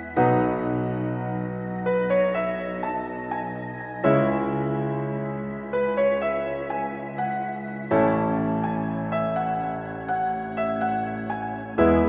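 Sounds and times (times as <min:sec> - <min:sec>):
slow melody over sustained chord: 0:00.0 - 0:12.0.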